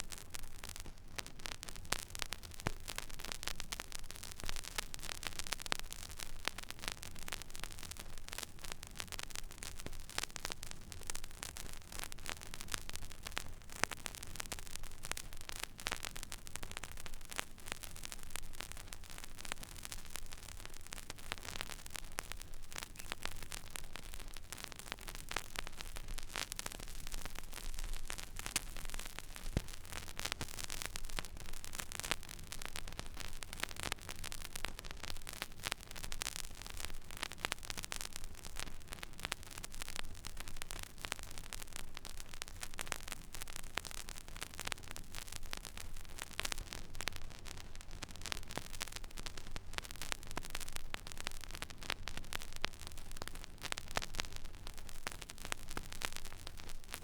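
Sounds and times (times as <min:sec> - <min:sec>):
vinyl crackle and pops: 0:00.0 - 0:57.0
vinyl surface hiss: 0:00.0 - 0:57.0.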